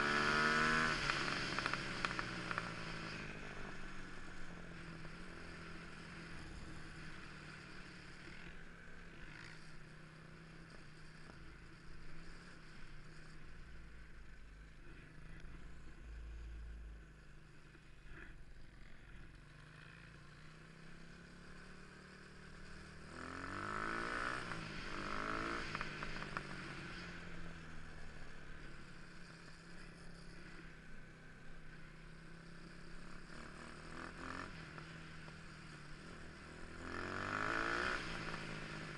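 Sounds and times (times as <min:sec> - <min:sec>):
motorcycle engine revving: 0:00.0 - 0:38.9
motorcycle engines running: 0:00.0 - 0:38.9.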